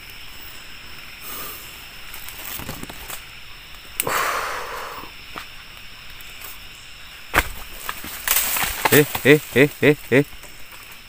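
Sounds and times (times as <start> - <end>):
high insect drone: 0.0 - 11.0
hissing rustle: 0.0 - 11.0.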